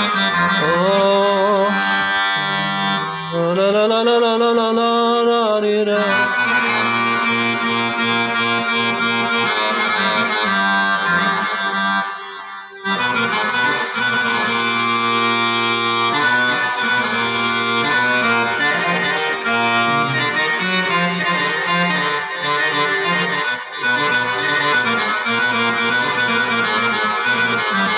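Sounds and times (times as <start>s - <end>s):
accordion playing: 0.0s - 3.8s, 6.0s - 27.9s.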